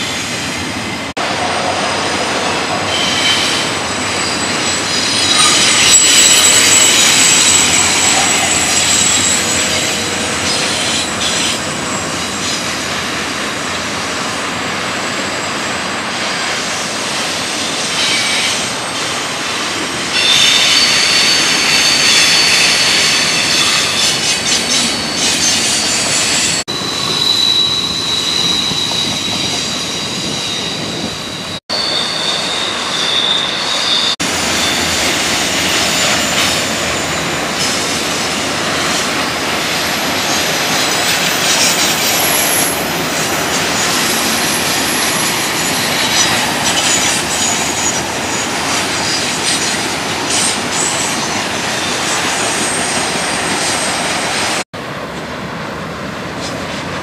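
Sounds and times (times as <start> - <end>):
freight train rumble: 0.0 - 57.0
high wheel squeal: 2.5 - 12.9, 15.0 - 19.2, 20.1 - 54.6.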